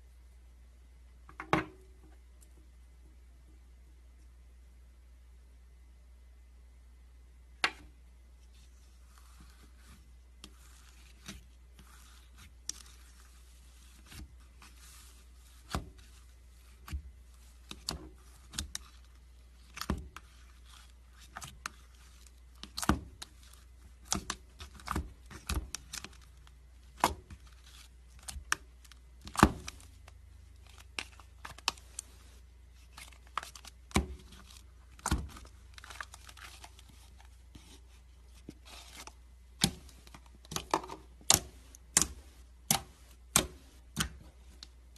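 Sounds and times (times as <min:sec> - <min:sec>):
low steady hum: 0:00.0 - 0:44.9.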